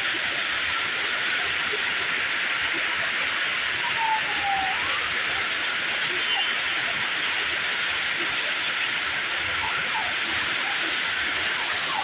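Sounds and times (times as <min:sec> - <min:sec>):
heavy rain pouring on road: 0:00.0 - 0:12.0.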